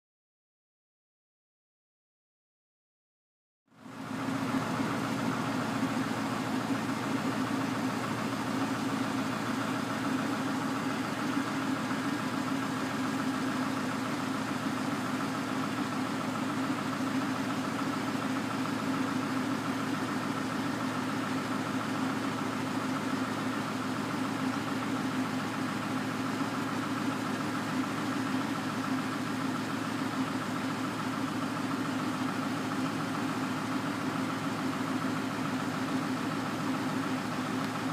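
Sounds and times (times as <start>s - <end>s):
diesel engine idling: 3.7s - 37.9s.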